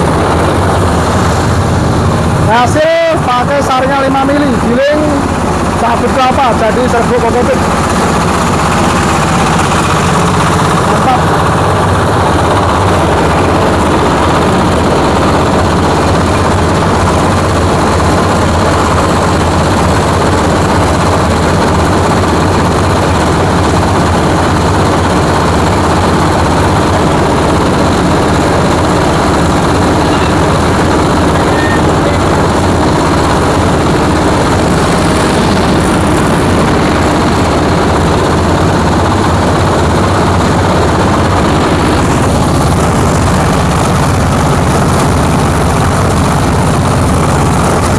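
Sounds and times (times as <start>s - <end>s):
grinding machine drone: 0.0s - 47.9s.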